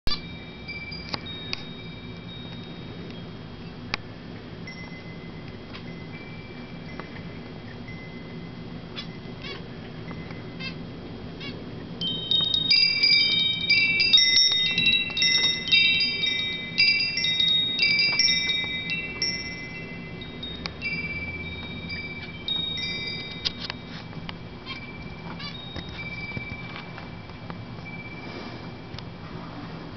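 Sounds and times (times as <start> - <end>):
metal wind chime ringing: 0.1 - 3.9, 4.6 - 9.4, 12.0 - 29.3.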